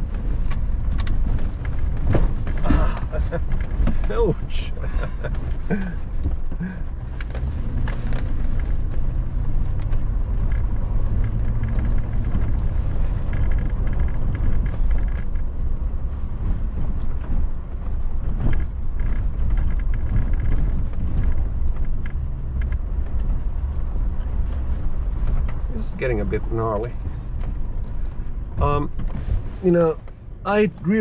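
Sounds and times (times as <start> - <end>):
truck engine and road rumble: 0.0 - 31.0.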